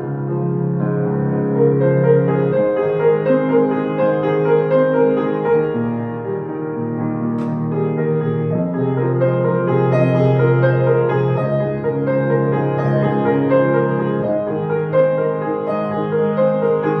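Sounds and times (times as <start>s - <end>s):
piano with slow held chords: 0.0s - 17.0s.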